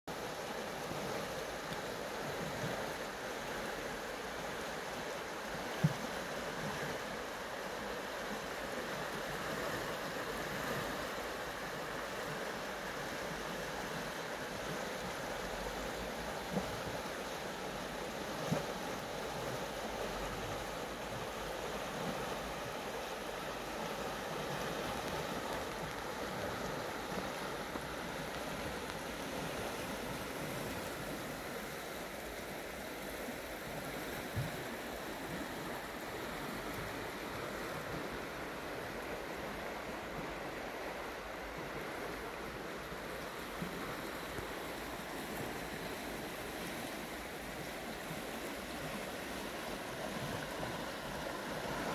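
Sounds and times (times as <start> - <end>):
river water rushing and rippling: 0.1 - 51.9.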